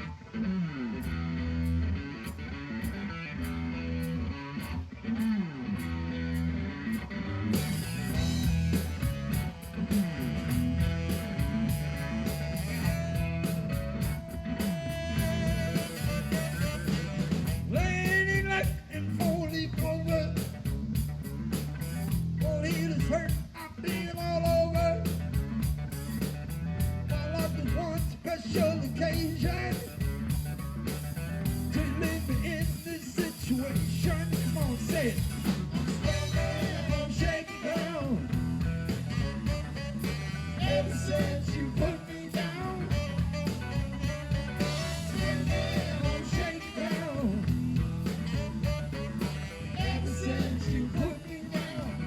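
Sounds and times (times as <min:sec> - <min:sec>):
blues band playing: 0:00.0 - 0:52.0
electric guitar and bass riff: 0:00.0 - 0:52.0.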